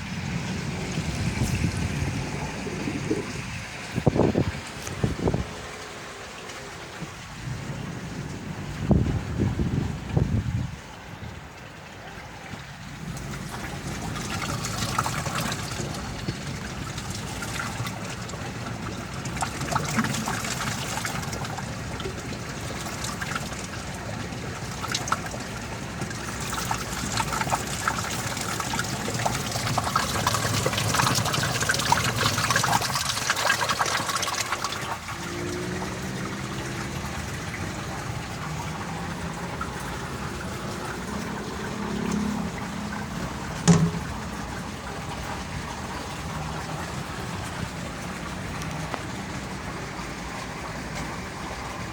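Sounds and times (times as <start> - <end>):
waterfall splashing into pond: 0.0 - 51.9.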